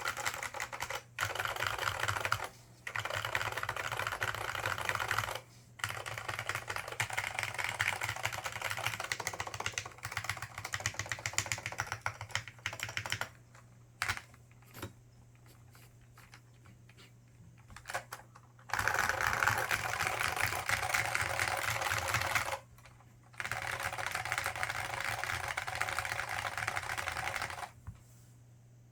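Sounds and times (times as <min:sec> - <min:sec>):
keyboard typing: 0:00.0 - 0:13.4, 0:14.0 - 0:14.9, 0:17.6 - 0:27.7.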